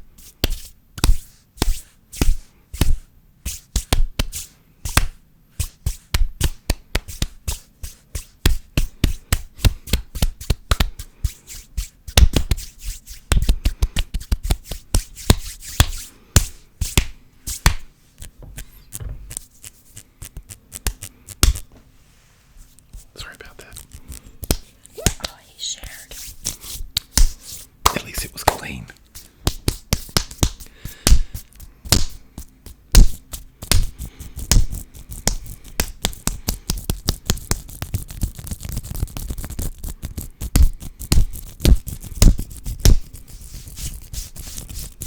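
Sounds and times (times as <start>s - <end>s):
hands slapping clapping and rubbing: 0.2s - 21.9s, 23.7s - 45.0s.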